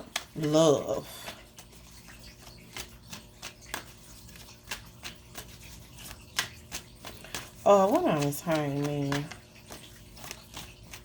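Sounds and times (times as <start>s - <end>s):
cards clicking and tapping: 0.0s - 11.0s.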